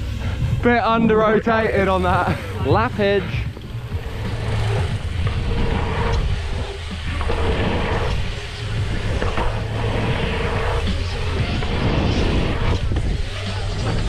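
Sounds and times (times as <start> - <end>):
tyres rumbling on dirt: 0.0 - 14.0
wind buffeting microphone: 0.0 - 14.0.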